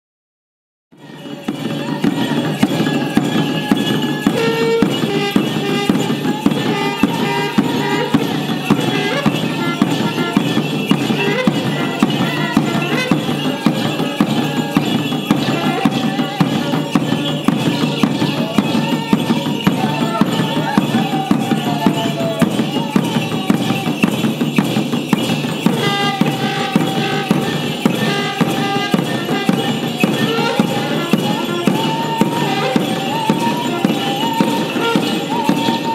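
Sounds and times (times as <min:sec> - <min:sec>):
drums beaten with sticks: 0:01.0 - 0:35.9
jingle bells shaking: 0:01.0 - 0:35.9.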